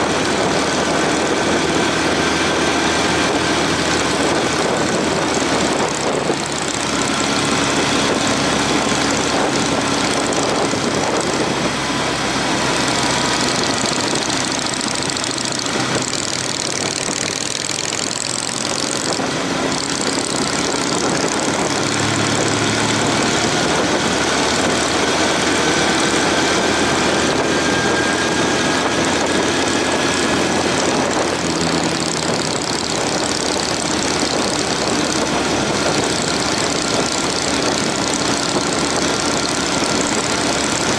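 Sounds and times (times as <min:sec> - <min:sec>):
motorcycle engine running: 0:00.0 - 0:40.9
wind rush over microphone: 0:00.0 - 0:40.9.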